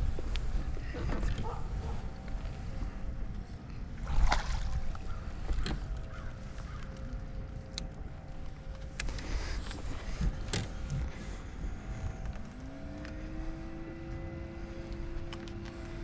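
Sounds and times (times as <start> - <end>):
boat engine rumble: 0.0 - 16.0
rising hum: 0.0 - 16.0.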